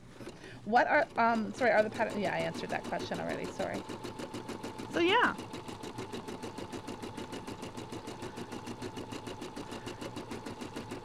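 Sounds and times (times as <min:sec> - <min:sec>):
embroidery machine stitching: 0:00.0 - 0:11.0.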